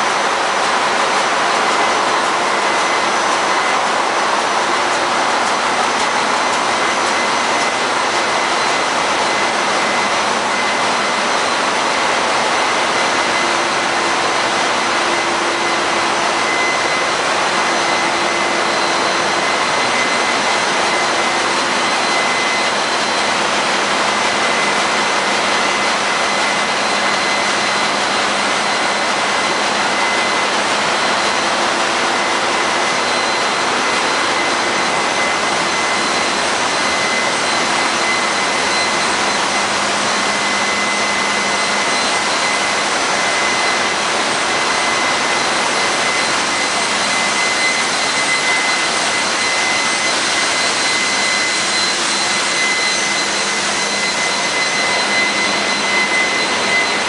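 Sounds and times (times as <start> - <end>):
engine-room machinery running: 0.0 - 57.0
high whine: 0.0 - 57.0.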